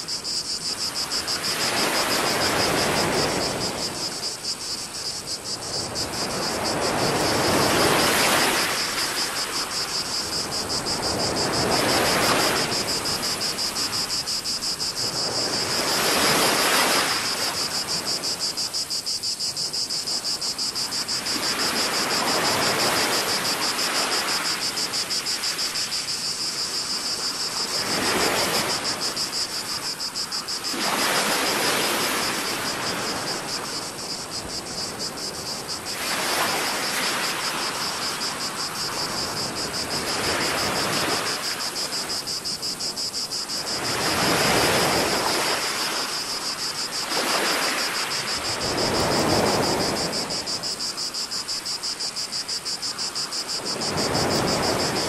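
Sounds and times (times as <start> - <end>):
small waves washing in: 0.0 - 18.2, 21.0 - 55.0
cicadas buzzing: 0.0 - 55.0.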